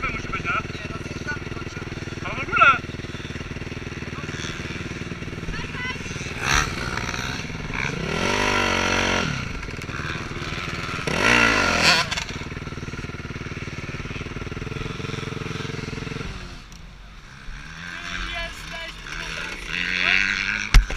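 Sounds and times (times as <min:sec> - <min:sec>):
motorcycle engines revving: 0:00.0 - 0:20.9.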